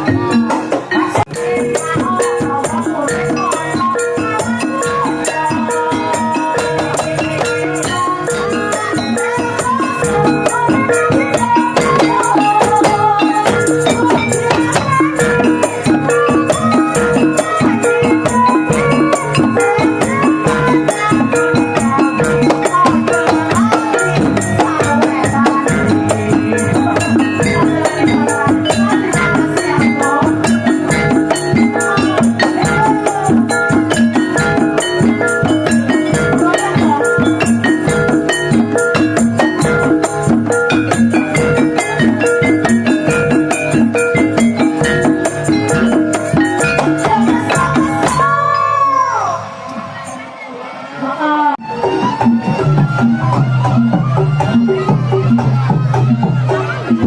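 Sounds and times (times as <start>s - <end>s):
music with busy percussion: 0.0s - 57.0s.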